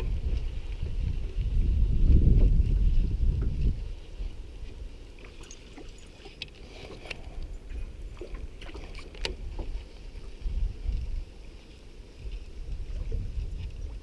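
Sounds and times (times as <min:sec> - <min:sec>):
gentle water movement: 0:00.0 - 0:14.0.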